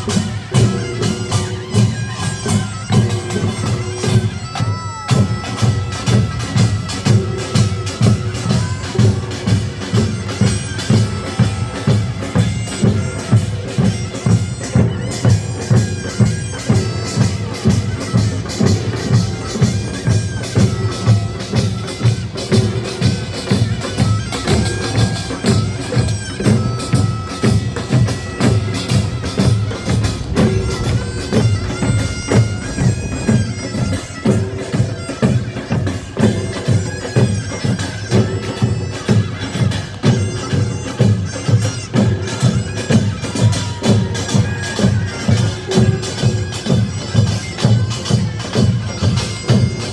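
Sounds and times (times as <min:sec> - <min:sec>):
gongs and drums beating: 0:00.0 - 0:49.9
shawm playing reedy melody: 0:00.0 - 0:49.9.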